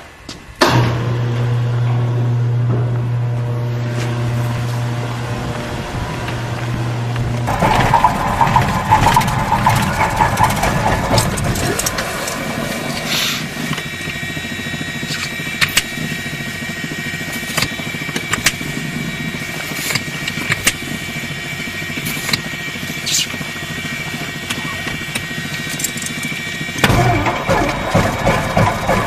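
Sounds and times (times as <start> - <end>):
steady high whine: 0.0 - 28.6
aircraft engine cranking: 0.0 - 29.0.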